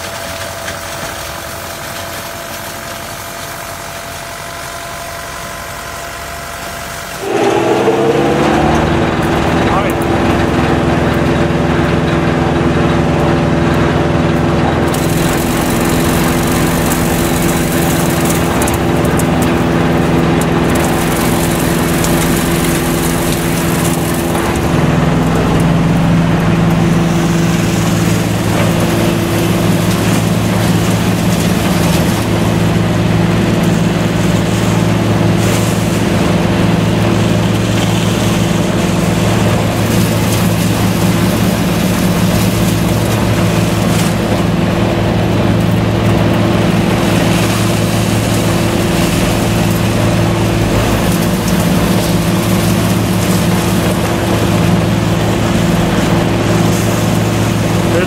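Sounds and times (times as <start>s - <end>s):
recycling machine humming: 0.1s - 58.0s.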